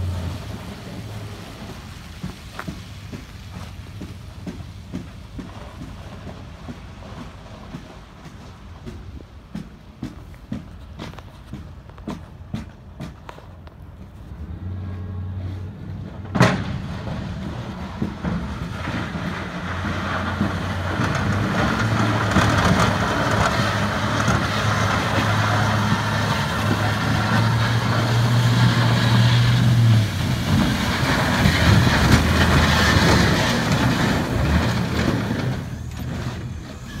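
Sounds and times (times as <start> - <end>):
plow blade scraping concrete: 0.0 - 9.5, 13.0 - 37.0
truck engine running under load: 0.0 - 37.0.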